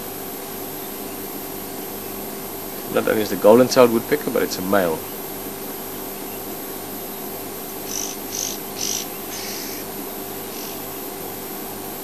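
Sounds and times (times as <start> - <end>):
insect chirping: 0.0 - 11.8
faint steady hum: 0.0 - 12.0.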